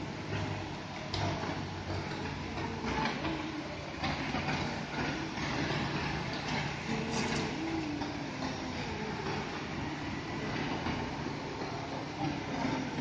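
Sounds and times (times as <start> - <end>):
concrete mixer drum rumbling: 0.0 - 13.0
diesel engine humming: 0.0 - 13.0.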